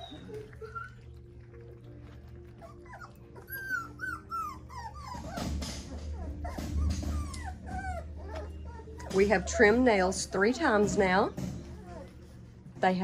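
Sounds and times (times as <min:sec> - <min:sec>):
puppies lapping and smacking: 0:00.0 - 0:13.0
puppies whimpering: 0:00.0 - 0:13.0.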